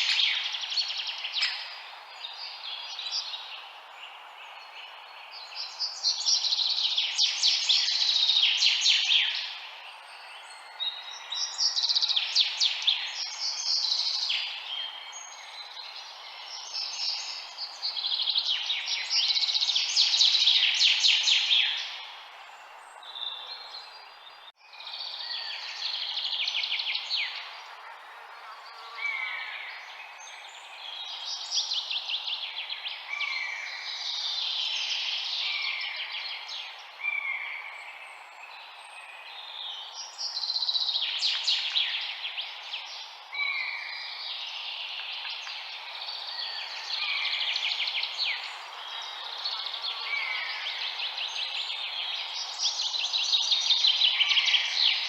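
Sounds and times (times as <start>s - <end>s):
background hiss: 0.0s - 55.0s
songbirds singing: 0.0s - 55.0s.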